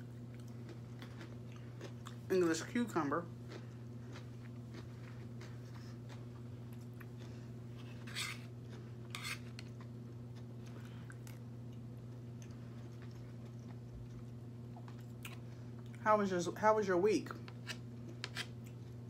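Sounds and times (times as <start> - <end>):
steady low hum: 0.0 - 19.0
chewing: 0.1 - 2.8, 3.4 - 16.0.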